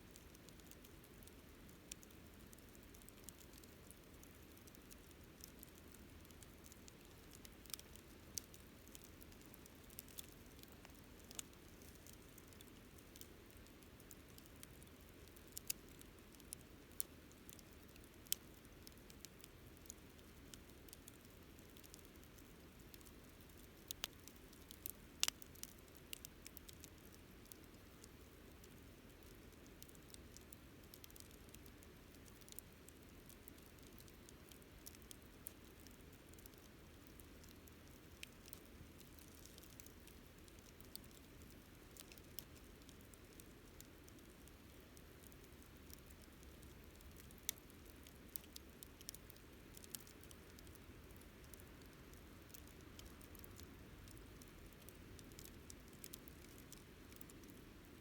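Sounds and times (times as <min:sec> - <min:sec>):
faint low hiss: 0:00.0 - 0:58.0
wood fire crackling: 0:00.1 - 0:58.0.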